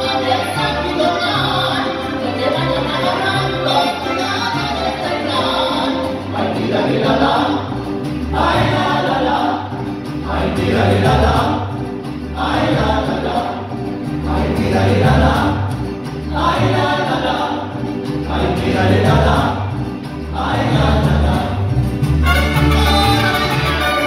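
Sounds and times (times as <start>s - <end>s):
voices singing together: 0.0s - 22.0s
mariachi band playing: 0.0s - 24.0s.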